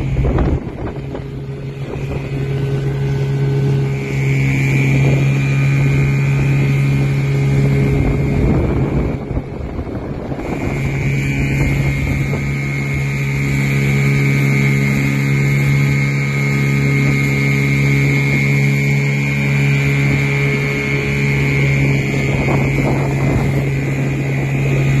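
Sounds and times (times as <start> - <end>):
outboard motor running: 0.0 - 25.0
water noise: 0.0 - 25.0
wind: 0.0 - 25.0.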